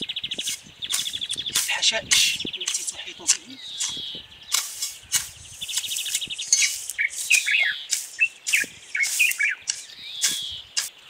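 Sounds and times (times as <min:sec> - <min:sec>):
hoe chopping and scraping soil: 0:00.0 - 0:11.0
small birds chirping: 0:00.0 - 0:11.0.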